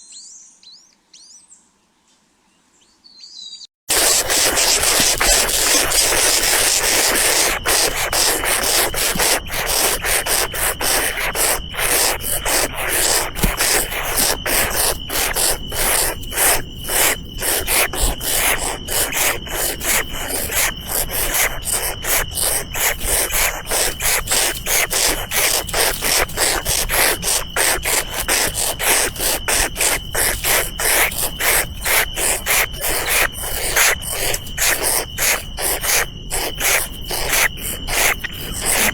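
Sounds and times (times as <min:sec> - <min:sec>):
insects rasping drone: 0:03.9 - 0:38.9.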